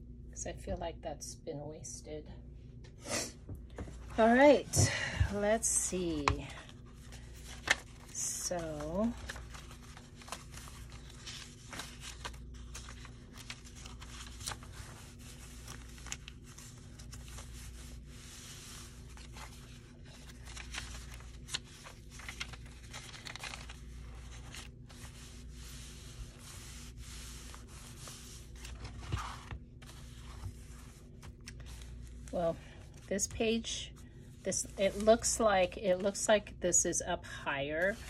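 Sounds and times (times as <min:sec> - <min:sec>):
paper pages rustling and crinkling: 0:03.8 - 0:36.2, 0:37.8 - 0:38.0.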